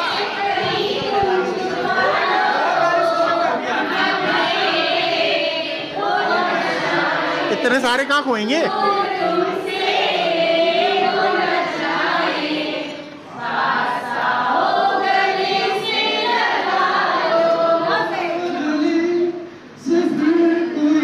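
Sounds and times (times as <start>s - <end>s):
women singing into a microphone: 0.0s - 7.6s, 8.7s - 21.0s.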